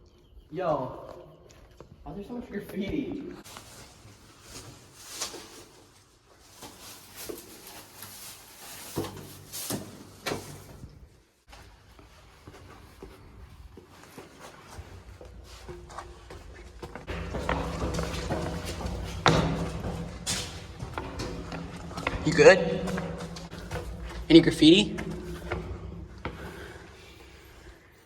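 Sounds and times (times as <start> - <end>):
knocks and scuffs in a drain: 1.8 - 27.8.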